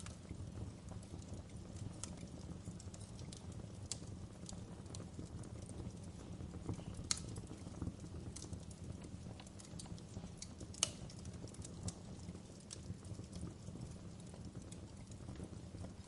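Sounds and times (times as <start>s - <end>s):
burning logs snapping and popping: 0.0s - 16.0s
low rumble of flame: 0.0s - 16.0s.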